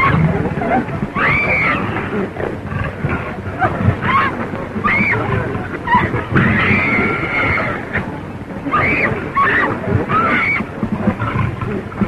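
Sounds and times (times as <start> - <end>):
constant low rumble: 0.0 - 12.0.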